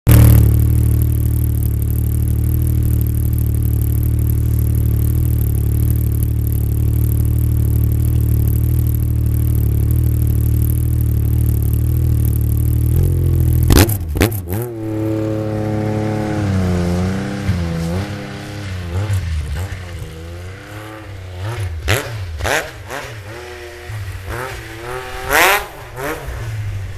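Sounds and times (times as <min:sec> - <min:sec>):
snowmobile engine: 0:00.1 - 0:26.9.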